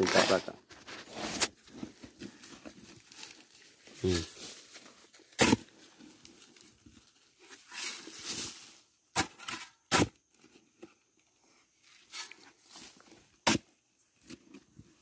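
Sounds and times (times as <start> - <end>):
loose soil scraping: 0.0 - 11.0, 11.7 - 15.0.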